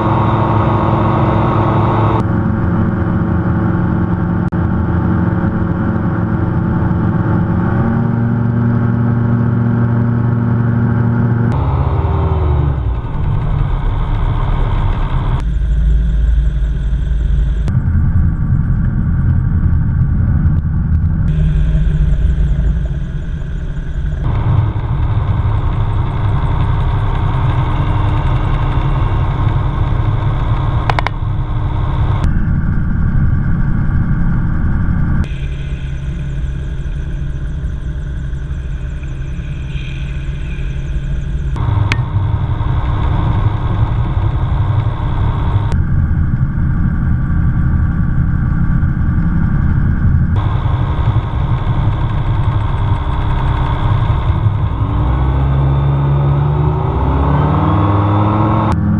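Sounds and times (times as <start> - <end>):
gyroplane engine and rotor drone: 0.0 - 58.9.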